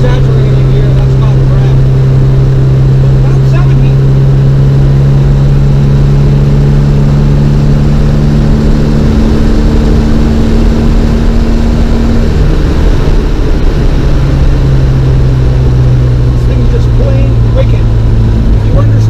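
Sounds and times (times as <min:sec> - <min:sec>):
car engine at road speed: 0:00.0 - 0:19.0
road noise: 0:00.0 - 0:19.0.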